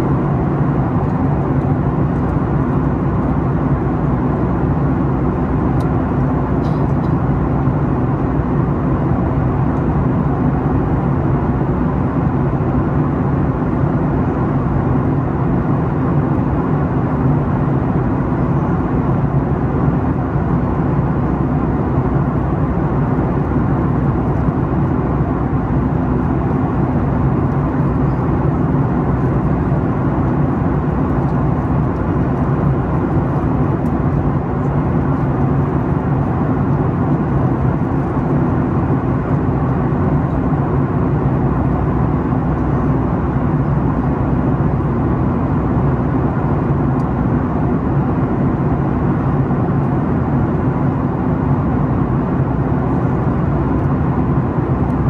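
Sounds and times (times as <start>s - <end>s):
jet engine droning low hum: 0.0s - 55.0s.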